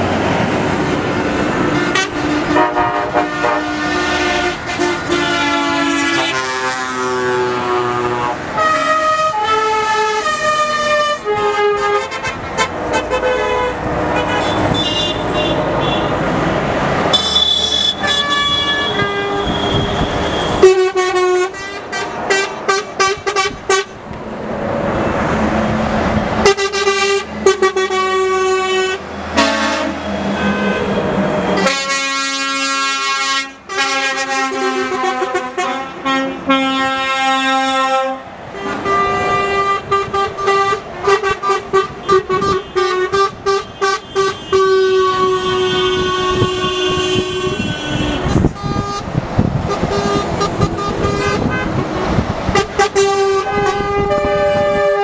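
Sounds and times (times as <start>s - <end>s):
diesel engines and tyre noise: 0.0s - 55.0s
truck horns tooting: 1.5s - 24.1s, 25.0s - 55.0s.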